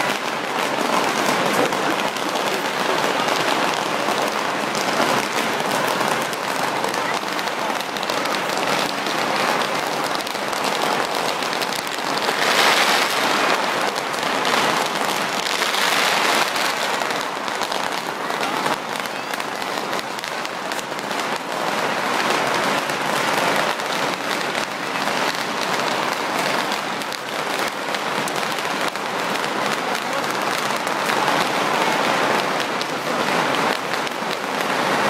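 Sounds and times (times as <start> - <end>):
firecrackers popping: 0.0 - 35.0.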